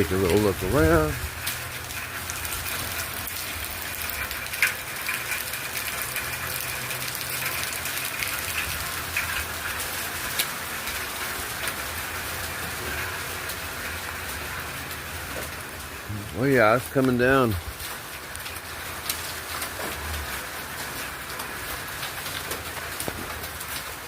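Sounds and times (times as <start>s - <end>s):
heavy rain pouring: 0.0s - 24.0s
raindrops tapping hard surfaces: 0.0s - 24.0s.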